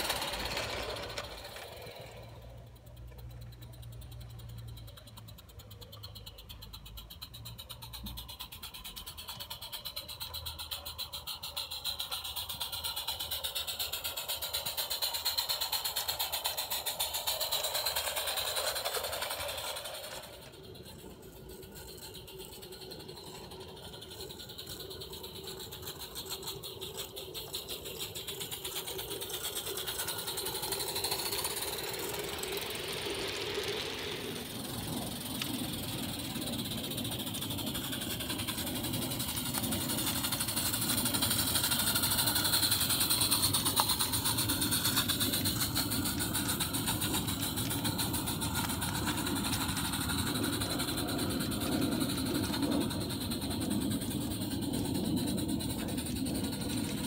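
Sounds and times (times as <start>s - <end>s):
model train wheels rattling: 0.0s - 57.0s.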